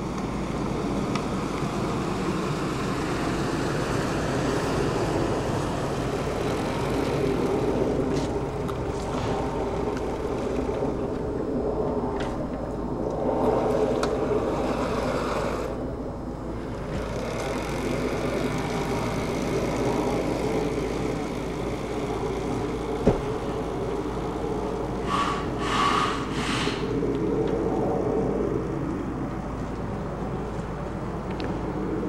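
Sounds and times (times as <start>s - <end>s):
electric vehicle drive hum: 0.0s - 32.0s
tyres rolling on asphalt: 0.0s - 32.0s.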